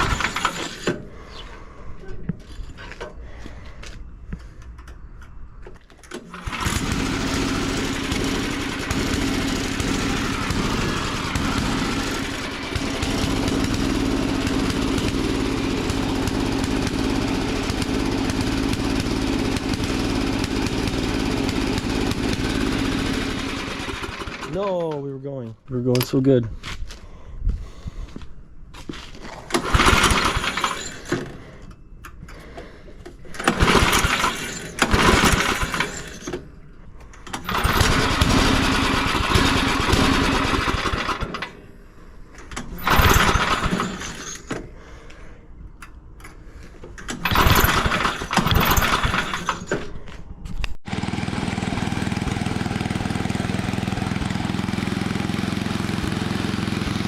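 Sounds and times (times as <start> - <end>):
small gas engine pull-starting: 0.0 - 1.8, 6.0 - 25.0, 29.2 - 45.4, 46.3 - 50.2, 50.8 - 57.0.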